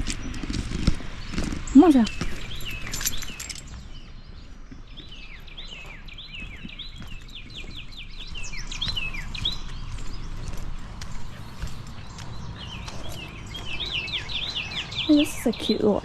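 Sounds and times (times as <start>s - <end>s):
footsteps on trail: 0.0s - 16.0s
songbird chirping: 0.0s - 16.0s.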